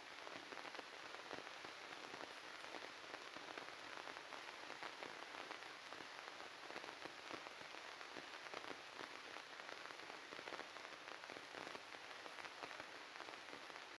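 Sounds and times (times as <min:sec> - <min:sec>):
crackling static: 0:00.0 - 0:14.0.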